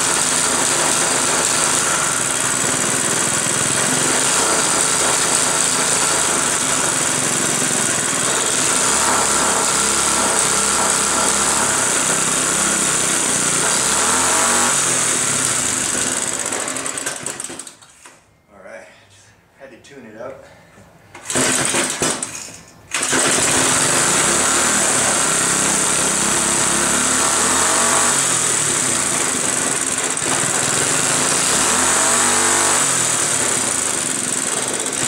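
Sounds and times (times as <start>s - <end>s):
small four-stroke engine running: 0.0s - 17.8s, 21.3s - 22.3s, 22.9s - 35.0s.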